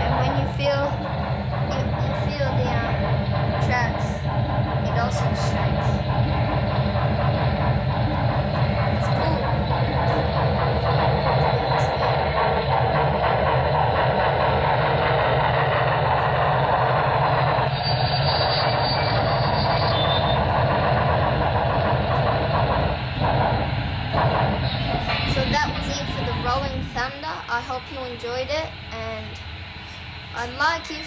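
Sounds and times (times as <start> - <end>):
deep rumble: 0.0 - 30.8
model steam locomotive sound: 0.0 - 31.0.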